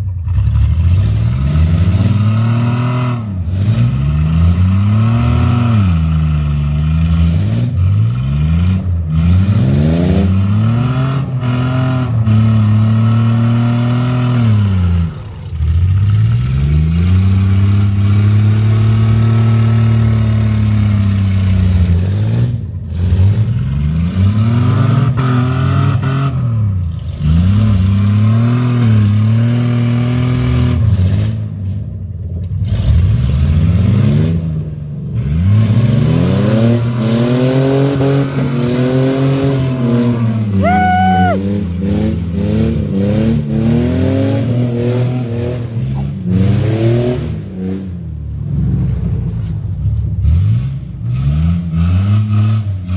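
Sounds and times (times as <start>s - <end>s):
car engine revving hard: 0.3s - 15.3s, 16.0s - 31.5s, 32.6s - 34.6s, 35.2s - 48.9s, 50.2s - 52.9s.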